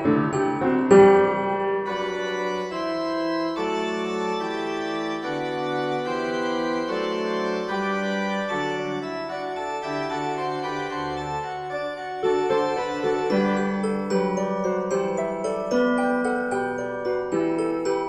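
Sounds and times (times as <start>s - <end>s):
organ-like keyboard chords: 0.0s - 18.0s.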